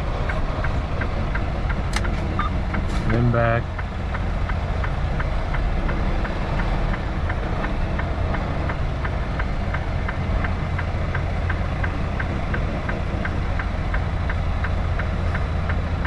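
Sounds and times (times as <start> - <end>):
diesel truck engine idling: 0.0 - 16.0
light even ticking: 0.2 - 16.0.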